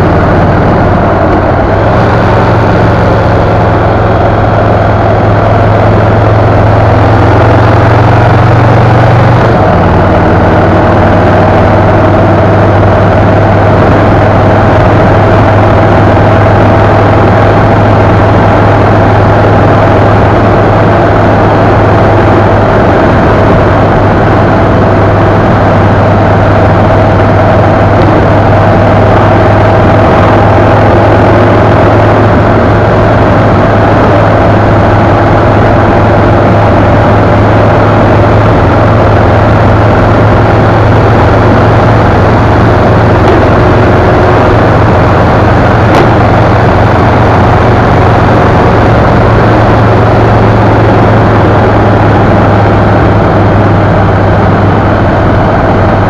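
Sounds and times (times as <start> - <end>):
vehicle engine cruising: 0.0 - 56.0
wind and road noise: 0.0 - 56.0.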